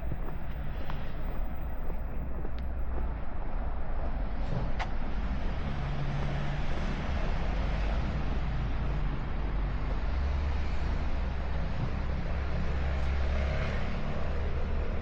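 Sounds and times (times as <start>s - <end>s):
low city rumble: 0.0s - 15.0s.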